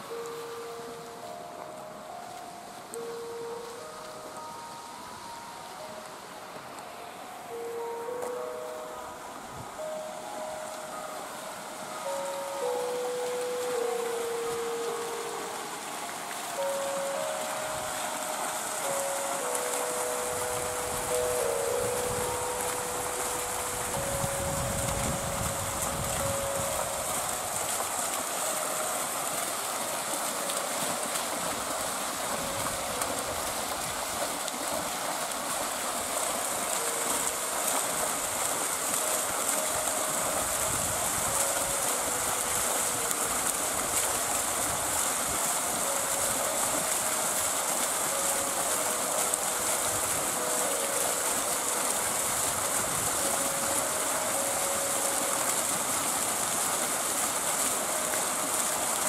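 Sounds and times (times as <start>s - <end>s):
faint slow tune: 0.0s - 59.0s
water rushing down cascade: 0.0s - 59.0s.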